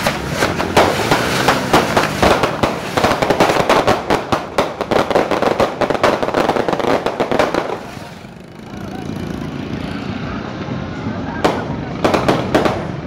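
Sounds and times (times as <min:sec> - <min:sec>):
firecrackers banging and crackling: 0:00.0 - 0:09.7, 0:11.4 - 0:13.0.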